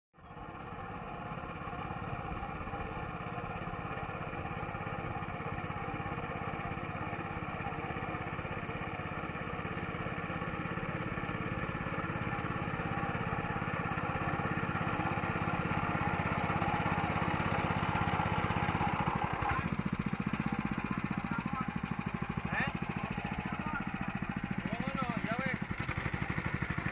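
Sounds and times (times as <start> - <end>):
small engine puttering: 0.2 - 26.9.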